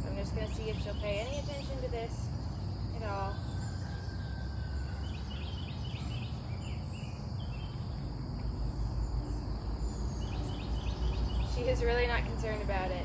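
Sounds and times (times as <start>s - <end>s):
bird chirping: 0.0s - 13.0s
high insect drone: 0.0s - 13.0s.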